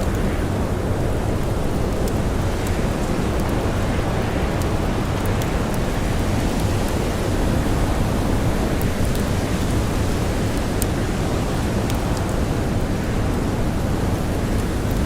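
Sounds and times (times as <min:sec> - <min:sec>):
blizzard wind blowing: 0:00.0 - 0:15.0
campfire crackling: 0:00.0 - 0:15.0.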